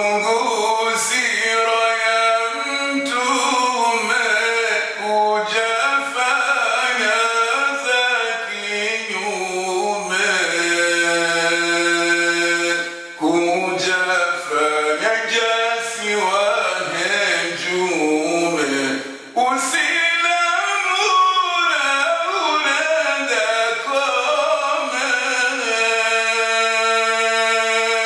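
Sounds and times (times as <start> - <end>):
man chanting a poem: 0.0 - 28.0.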